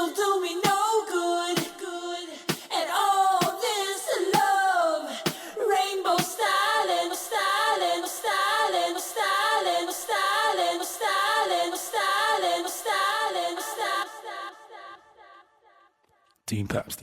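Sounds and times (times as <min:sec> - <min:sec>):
looped choir-like vocal phrase: 0:00.0 - 0:15.8.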